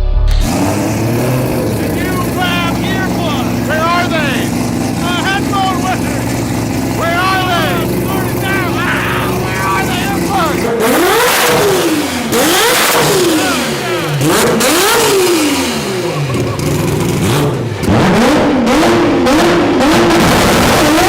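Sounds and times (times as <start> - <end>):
rotary engine revving: 0.3 - 21.0.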